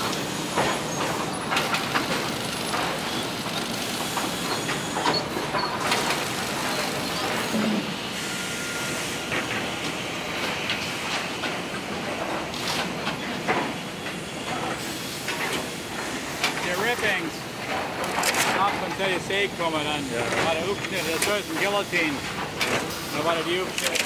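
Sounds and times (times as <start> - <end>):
boards knocking on conveyor: 0.0 - 7.9, 8.9 - 24.0
saw machine running: 0.0 - 13.0, 14.3 - 24.0.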